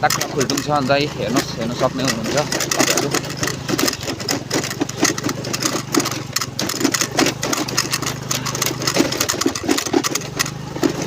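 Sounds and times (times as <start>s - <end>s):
scooter engine running: 0.0s - 11.0s
short crackles and knocks: 0.0s - 11.0s.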